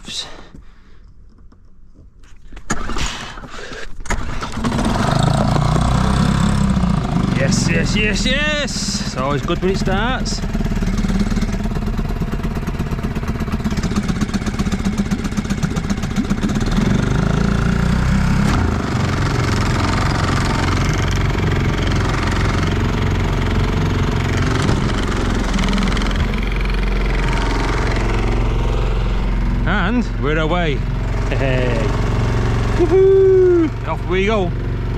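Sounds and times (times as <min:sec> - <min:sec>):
outboard motor running: 0:02.7 - 0:34.9.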